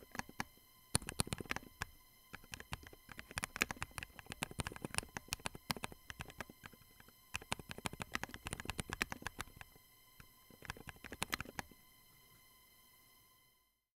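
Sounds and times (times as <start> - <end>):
keyboard typing: 0.0 - 11.8.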